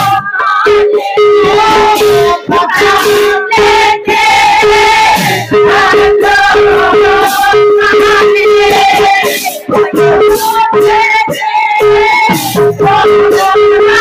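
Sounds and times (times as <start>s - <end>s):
women singing together: 0.0s - 14.0s.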